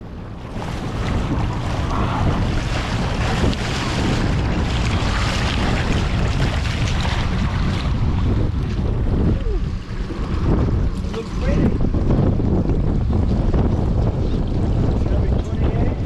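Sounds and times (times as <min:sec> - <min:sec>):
wind noise on microphone: 0:00.0 - 0:16.0
water rushing and splashing: 0:00.1 - 0:16.0.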